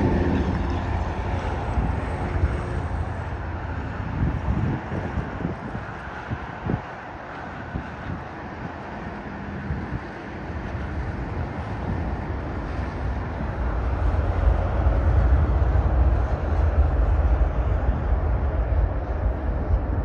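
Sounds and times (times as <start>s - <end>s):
aircraft passing by: 0.0s - 20.0s.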